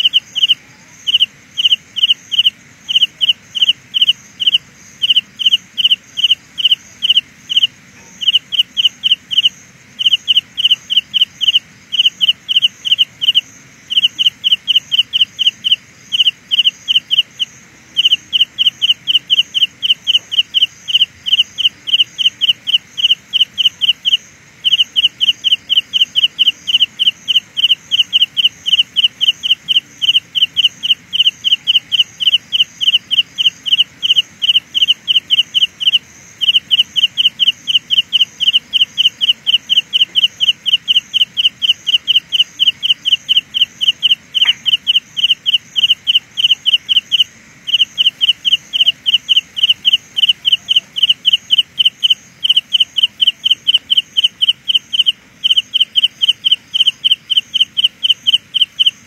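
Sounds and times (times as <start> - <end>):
cricket pulsing trill: 0.0 - 59.0.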